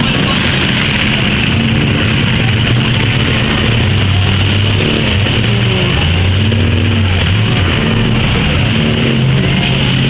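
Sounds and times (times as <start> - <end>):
car engines revving loudly: 0.0 - 10.0
steady wash of noise: 0.0 - 10.0.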